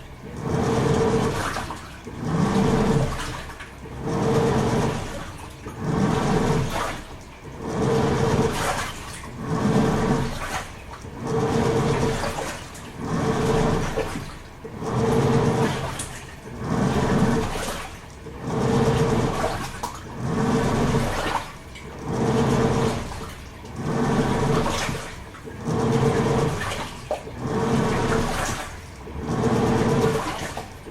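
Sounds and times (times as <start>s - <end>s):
washing machine motor hum: 0.0s - 30.9s
washing machine sloshing water: 0.0s - 30.9s.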